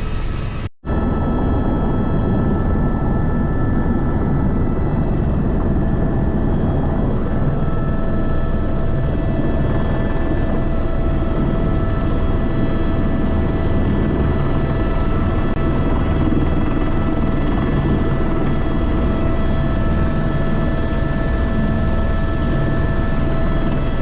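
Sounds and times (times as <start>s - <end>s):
helicopter low drone: 0.0s - 24.0s
helicopter whining tones: 0.0s - 24.0s.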